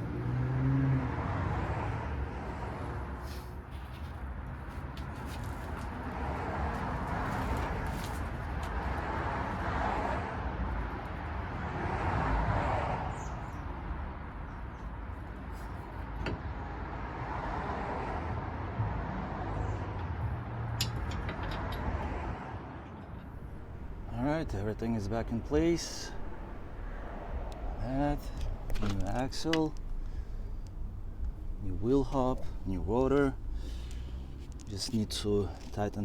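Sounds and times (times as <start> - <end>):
road traffic: 0.0 - 36.0
vehicles passing: 0.0 - 36.0.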